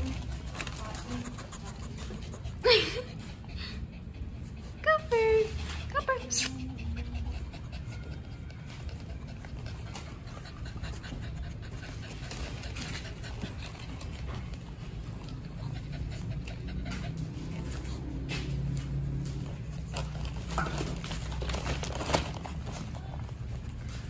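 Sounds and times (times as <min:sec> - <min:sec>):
dogs panting: 0:00.0 - 0:24.0.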